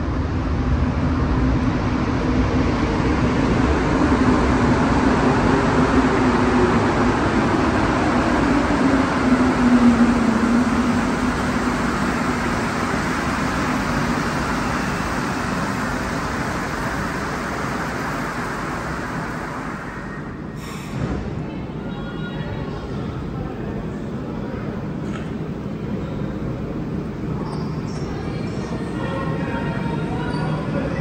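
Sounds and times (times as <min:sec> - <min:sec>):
metro train rumbling into station: 0:00.0 - 0:31.0.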